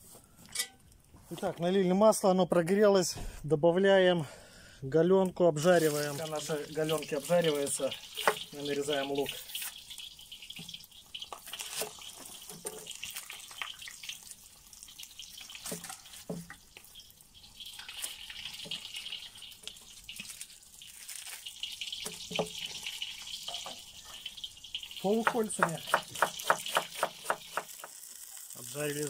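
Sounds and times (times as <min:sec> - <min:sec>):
meat sizzling in oil: 0:05.6 - 0:29.0.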